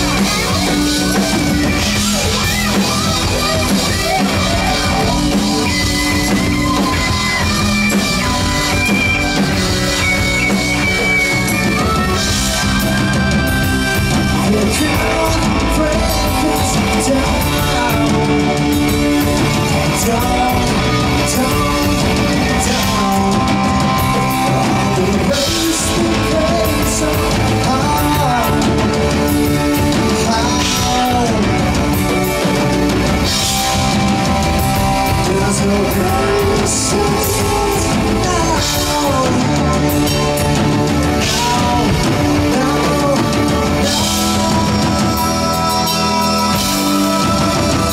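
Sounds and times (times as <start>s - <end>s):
rock band playing live: 0.0s - 47.9s.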